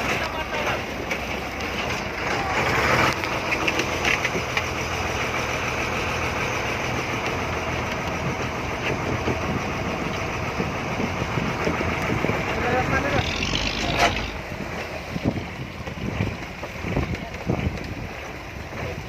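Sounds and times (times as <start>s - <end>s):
boat engine humming: 0.0s - 19.0s
wind and water rushing: 0.0s - 19.0s.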